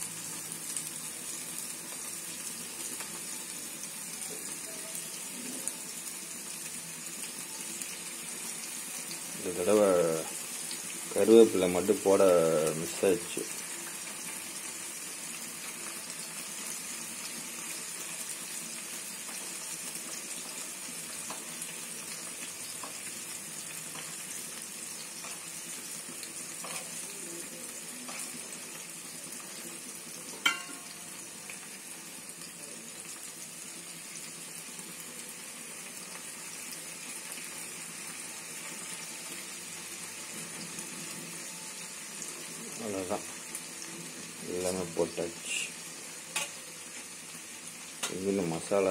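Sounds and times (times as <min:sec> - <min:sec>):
fish sizzling in hot oil: 0:00.0 - 0:48.9.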